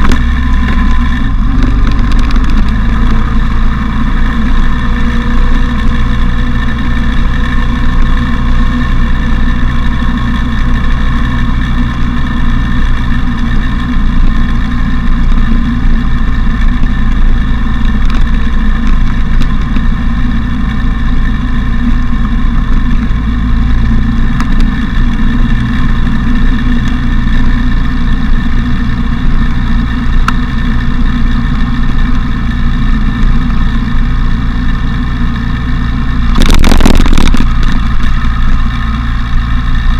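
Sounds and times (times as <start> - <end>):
motorcycle engine cruising: 0.0 - 39.9
wind rumble on microphone: 0.0 - 39.9.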